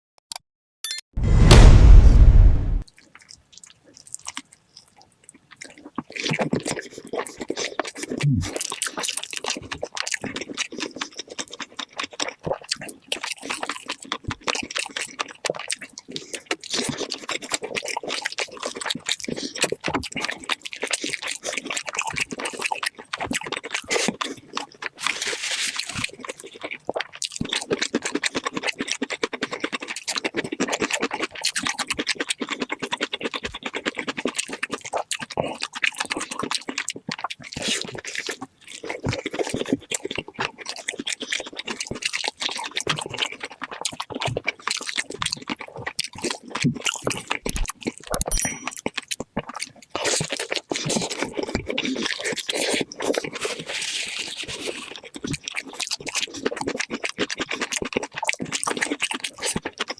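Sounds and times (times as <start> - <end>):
rapid crunching and chewing: 3.0 - 59.9.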